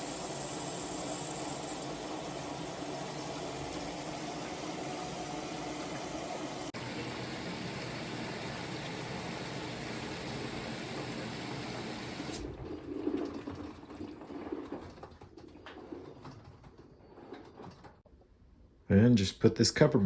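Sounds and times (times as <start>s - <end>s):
washing machine rushing noise: 0.0s - 18.0s
quiet uneven washing machine sounds: 0.0s - 18.1s.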